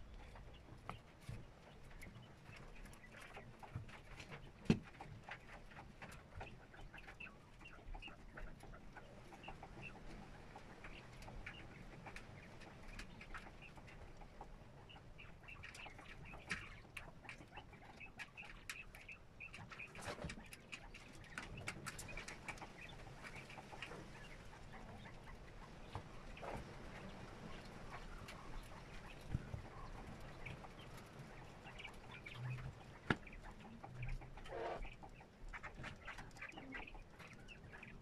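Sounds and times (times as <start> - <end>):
chicks peeping: 0.0 - 38.0
pecking and scratching in shavings: 0.0 - 38.0.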